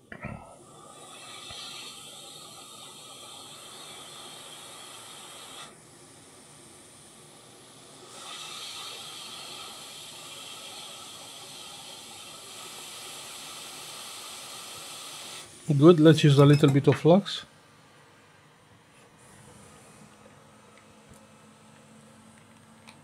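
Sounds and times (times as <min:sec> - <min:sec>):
hot air station hissing: 0:00.0 - 0:22.2.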